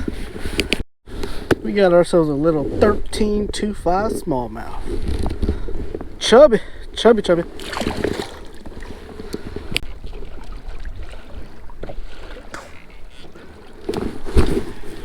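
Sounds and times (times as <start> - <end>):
wind on microphone: 0.0 - 13.3
water around hull: 0.0 - 15.0.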